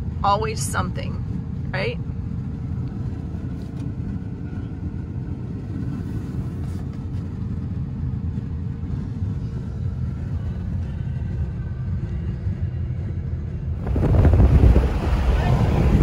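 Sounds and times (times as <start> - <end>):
faint constant hum: 0.0 - 16.0.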